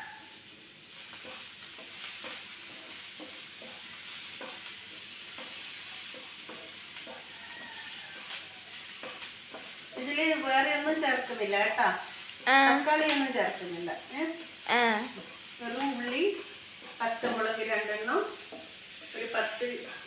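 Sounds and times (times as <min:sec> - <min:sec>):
vegetables sizzling in a pan: 0:00.0 - 0:20.0
wooden spatula scraping a pan: 0:00.9 - 0:20.0.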